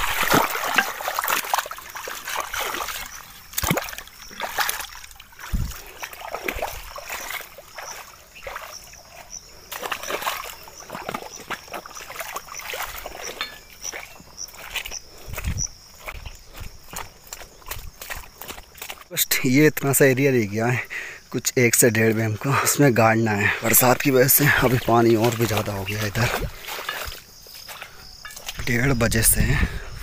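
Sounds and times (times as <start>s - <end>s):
bare feet splashing in water: 0.0s - 19.1s, 23.3s - 29.0s.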